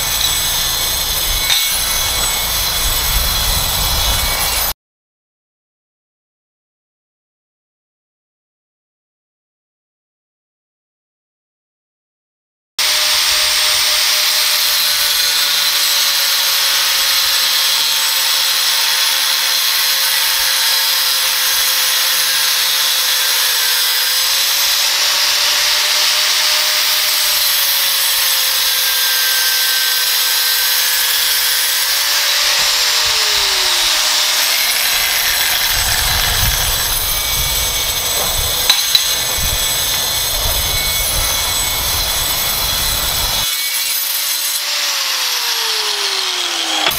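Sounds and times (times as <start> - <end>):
angle grinder cutting steel: 0.0 - 4.7, 12.8 - 46.9
grinder spinning down: 0.0 - 4.7, 12.8 - 46.9.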